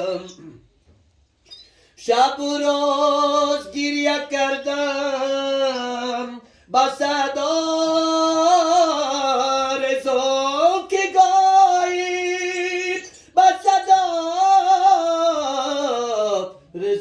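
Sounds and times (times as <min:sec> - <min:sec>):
man singing unaccompanied: 0:00.0 - 0:00.6, 0:02.0 - 0:17.0.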